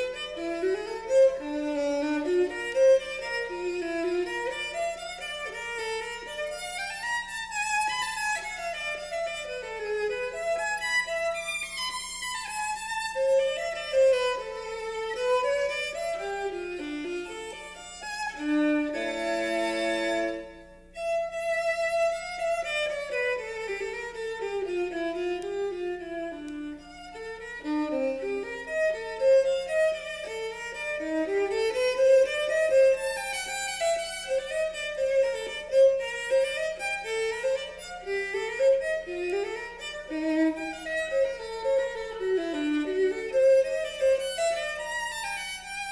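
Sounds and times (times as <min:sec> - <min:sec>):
violin music: 0:00.0 - 0:45.9.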